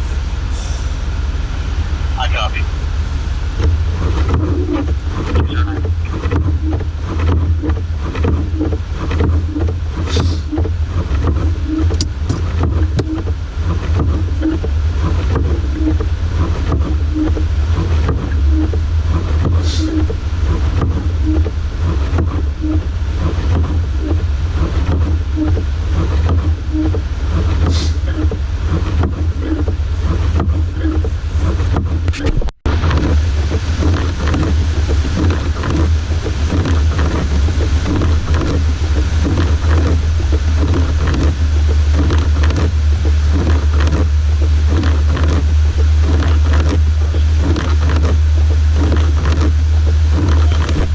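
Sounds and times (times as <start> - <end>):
car engine rumble: 0.0 - 50.9
tyres on snowy road: 0.0 - 50.9
wind: 0.0 - 50.9.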